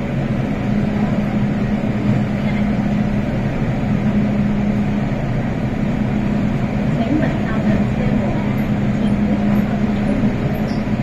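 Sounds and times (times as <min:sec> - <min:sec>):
train machine hum and rumble: 0:00.0 - 0:11.0.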